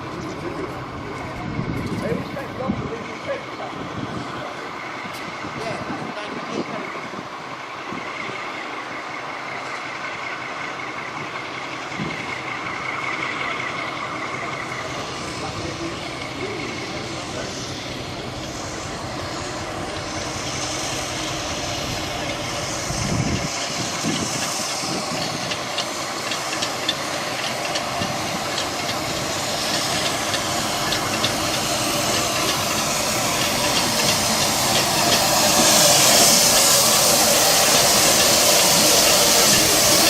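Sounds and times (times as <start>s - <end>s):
steam locomotive hissing: 0.0s - 40.0s.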